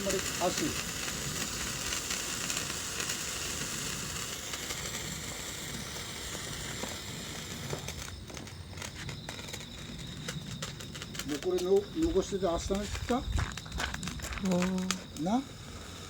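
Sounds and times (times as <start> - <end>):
firework hissing and crackling: 0.0 - 16.0.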